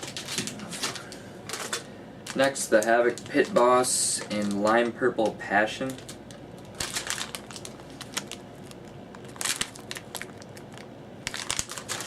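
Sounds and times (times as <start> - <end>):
plastic package crinkling: 0.0 - 12.0.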